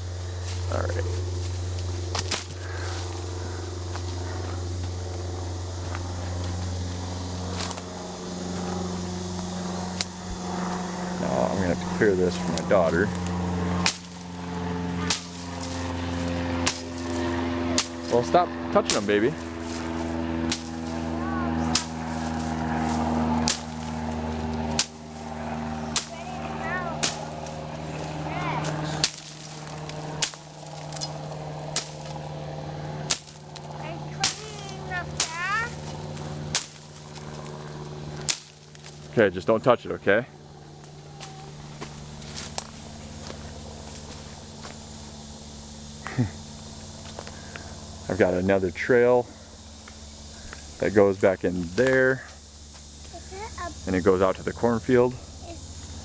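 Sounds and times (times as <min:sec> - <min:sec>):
dry sticks snapping: 0:00.0 - 0:39.2, 0:40.6 - 0:45.1, 0:46.1 - 0:47.7, 0:49.7 - 0:52.0
low engine drone: 0:00.0 - 0:51.7.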